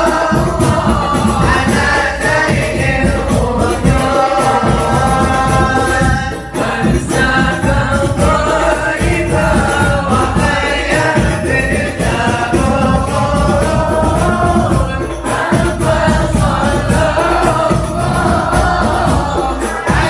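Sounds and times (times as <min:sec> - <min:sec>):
frame drum and tambourine: 0:00.0 - 0:20.0
group singing devotional song: 0:00.0 - 0:20.0.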